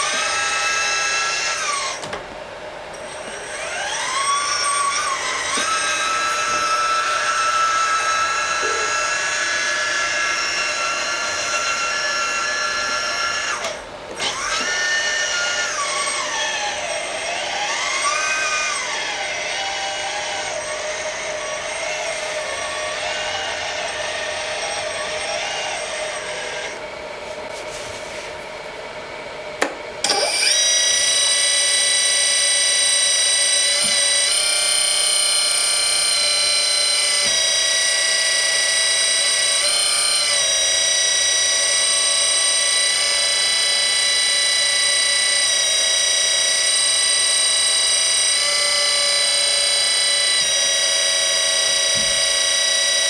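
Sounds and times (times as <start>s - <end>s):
hydraulic pump whining: 0.0s - 53.0s.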